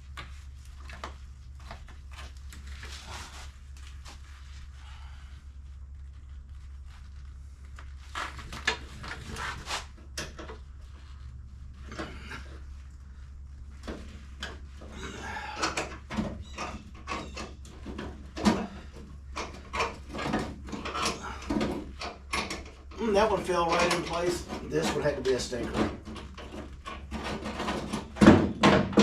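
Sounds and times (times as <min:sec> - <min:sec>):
steady low hum: 0:00.0 - 0:28.8.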